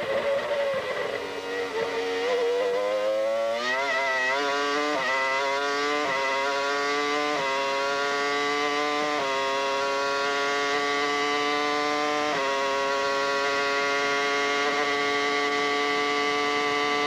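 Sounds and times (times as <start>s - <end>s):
racing car engine accelerating: 0.0s - 17.0s.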